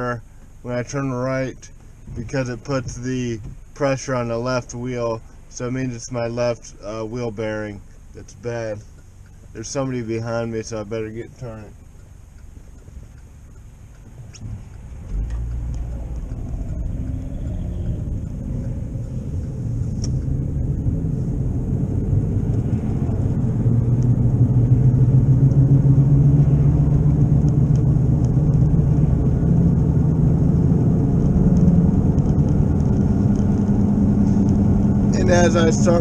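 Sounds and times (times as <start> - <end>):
wheel bearing drone in car cabin: 0.0 - 36.0.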